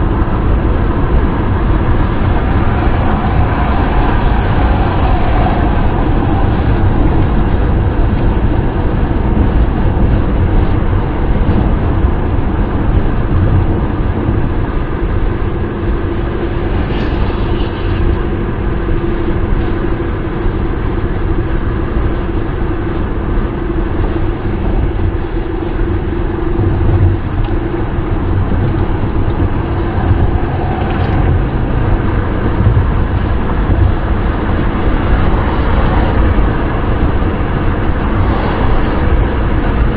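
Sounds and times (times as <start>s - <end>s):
car wind and road noise: 0.0s - 39.9s.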